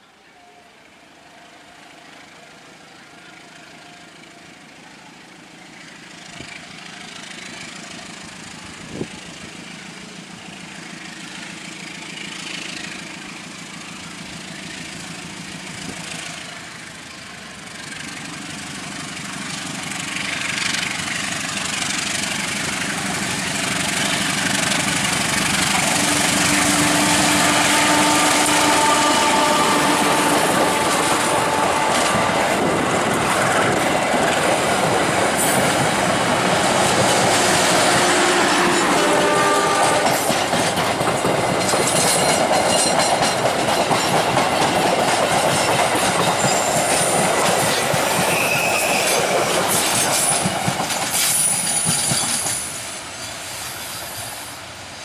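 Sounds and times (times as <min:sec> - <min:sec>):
diesel locomotive engine: 0:00.0 - 0:55.0
wheel and rail noise: 0:00.0 - 0:55.0.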